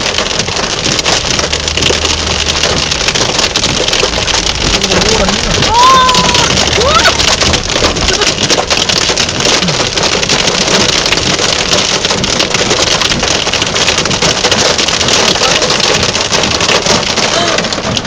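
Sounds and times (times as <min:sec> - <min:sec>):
heavy rain drumming on a car: 0:00.0 - 0:18.0.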